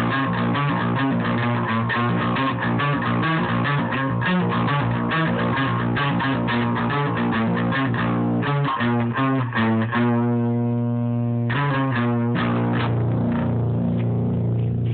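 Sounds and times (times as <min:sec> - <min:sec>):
electric guitar playing: 0:00.0 - 0:14.9.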